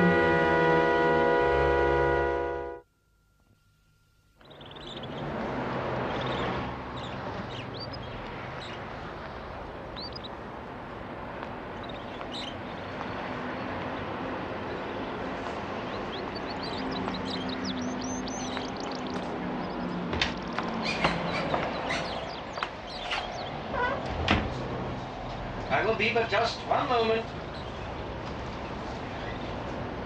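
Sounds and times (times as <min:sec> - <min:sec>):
low rumble of traffic: 0:00.0 - 0:02.9, 0:03.5 - 0:30.0
small birds chirping: 0:04.4 - 0:24.1, 0:25.3 - 0:30.0.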